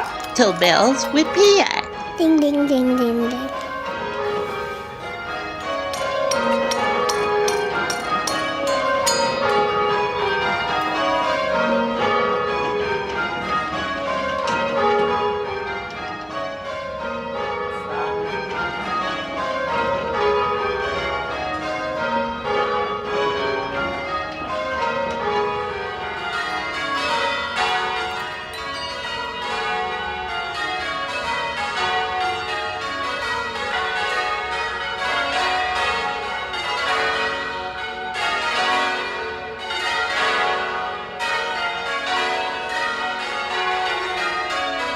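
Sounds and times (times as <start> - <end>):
church bells ringing in rounds: 0.0 - 44.9.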